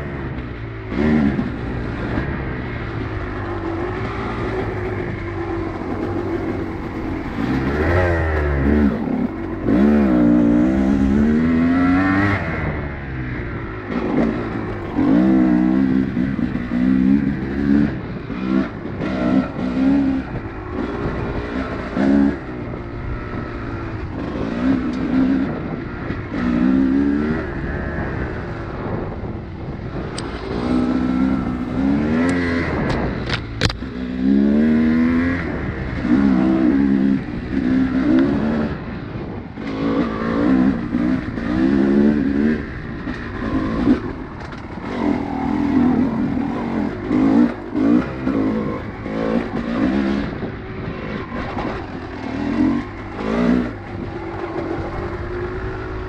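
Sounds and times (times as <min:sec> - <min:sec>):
off-road vehicle engine revving: 0:00.0 - 0:56.0
wind and riding rumble: 0:00.0 - 0:56.0.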